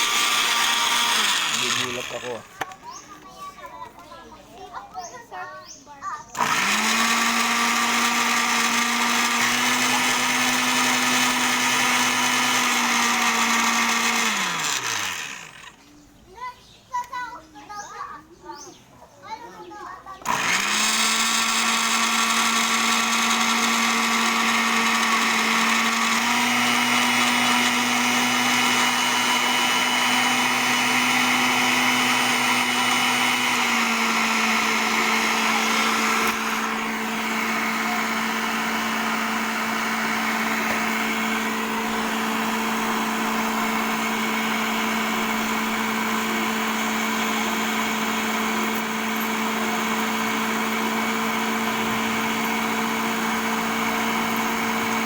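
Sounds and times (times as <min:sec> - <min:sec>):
blender motor humming: 0:00.0 - 0:02.8, 0:06.3 - 0:15.8, 0:20.2 - 0:55.0.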